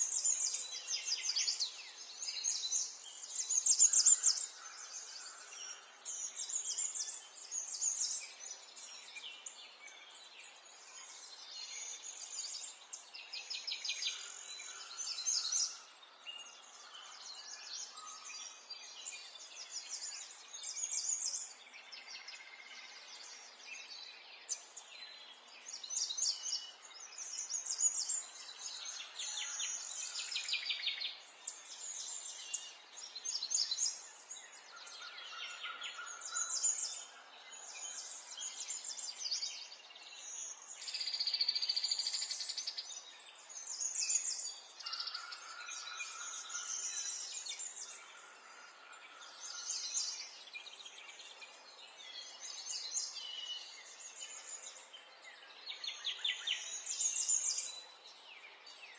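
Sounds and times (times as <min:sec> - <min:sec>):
songbirds singing and trilling: 0:00.0 - 0:58.9.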